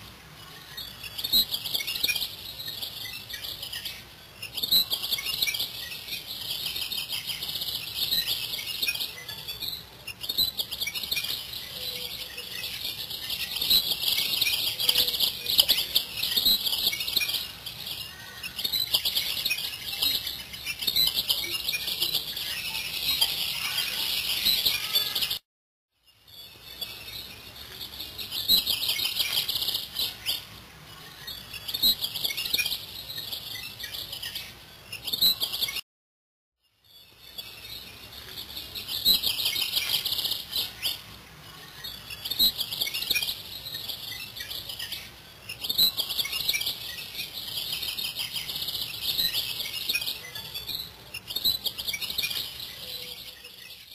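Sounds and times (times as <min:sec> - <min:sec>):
small birds chirping in chorus: 0:00.0 - 0:25.4, 0:26.0 - 0:35.8, 0:36.7 - 0:53.9.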